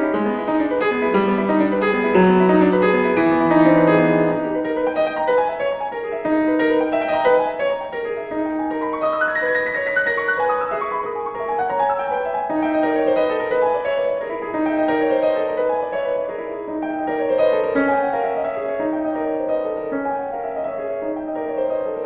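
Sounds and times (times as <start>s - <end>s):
classical solo piano music: 0.0s - 22.0s.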